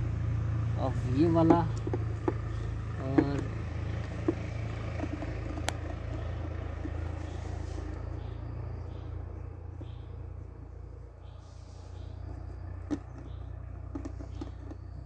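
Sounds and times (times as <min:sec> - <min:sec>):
tractor engine rumble: 0:00.0 - 0:15.0.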